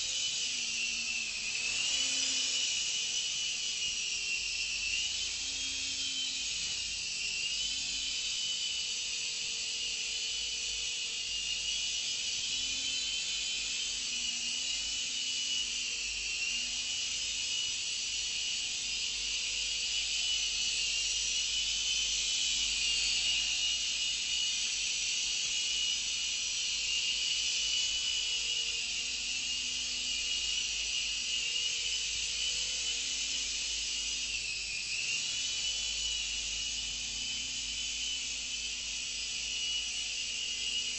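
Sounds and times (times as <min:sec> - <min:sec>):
rc helicopter rotor whine: 0:00.0 - 0:40.9.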